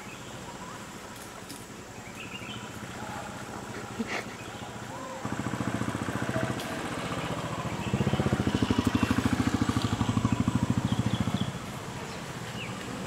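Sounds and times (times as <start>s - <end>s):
vehicle engine idling: 2.0s - 13.0s.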